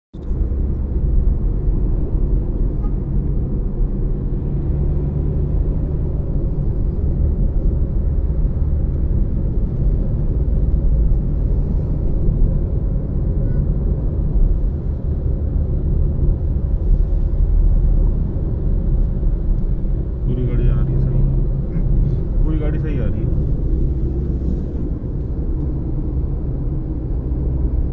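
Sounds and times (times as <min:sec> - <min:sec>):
motor vehicle rumble: 0:00.1 - 0:27.9.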